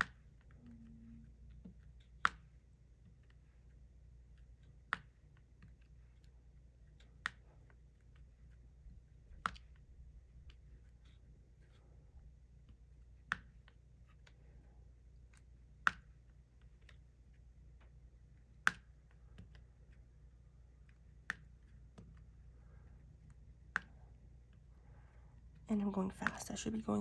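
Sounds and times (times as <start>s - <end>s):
faint pen taps and ticks: 1.2s - 25.6s.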